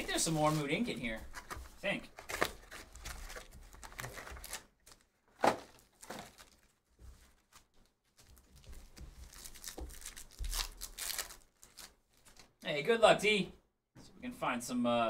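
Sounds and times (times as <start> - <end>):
foil wrappers crinkling: 0.0 - 12.5.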